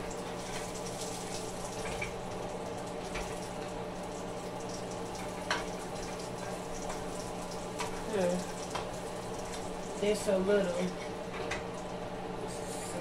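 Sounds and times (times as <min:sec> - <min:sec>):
pancakes sizzling in skillet: 0:00.0 - 0:12.2.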